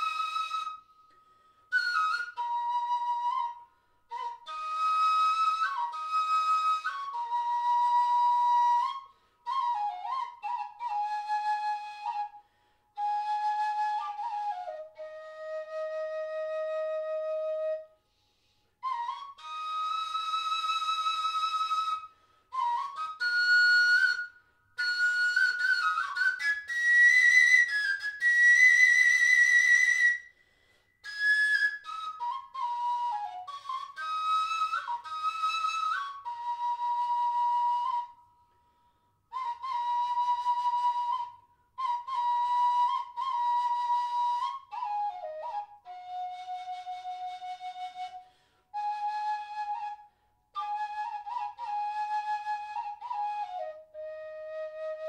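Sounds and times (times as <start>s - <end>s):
flute playing slow phrases: 0.0s - 12.4s, 13.0s - 55.0s.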